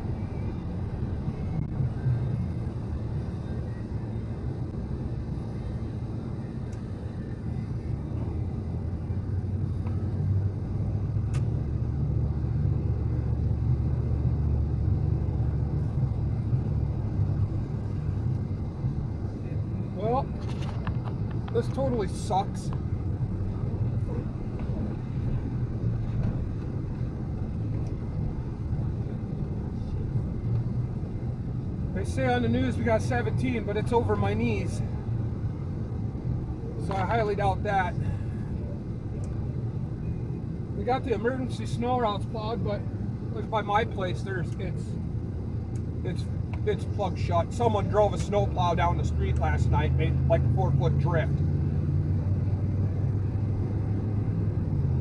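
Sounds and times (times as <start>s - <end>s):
road noise: 0.0s - 55.0s
vehicle driving rumble: 0.0s - 55.0s.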